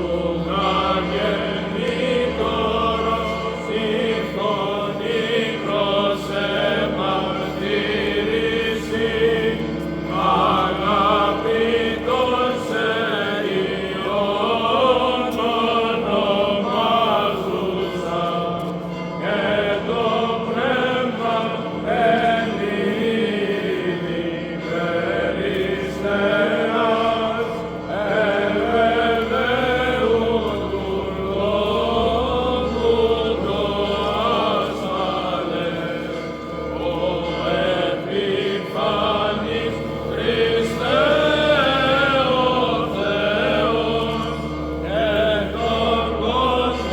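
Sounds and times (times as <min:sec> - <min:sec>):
voices chanting a melody: 0:00.0 - 0:46.9.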